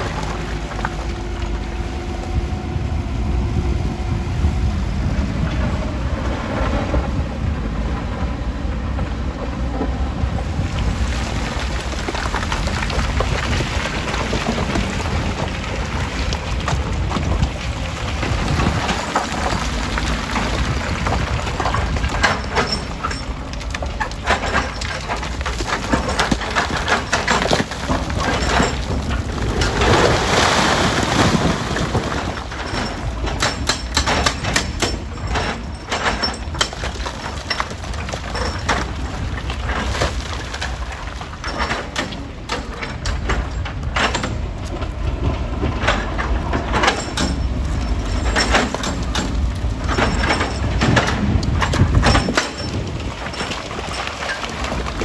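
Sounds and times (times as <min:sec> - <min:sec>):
rocks knocking and clattering: 0:00.0 - 0:01.8, 0:10.4 - 0:55.0
stone-crushing machinery rumble: 0:00.0 - 0:55.0.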